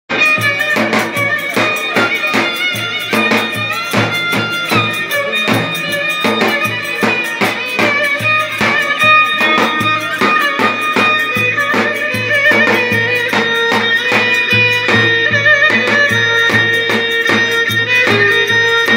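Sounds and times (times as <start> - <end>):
fiddle-like folk melody: 0.1 - 18.9
steady drum beat: 0.1 - 18.9.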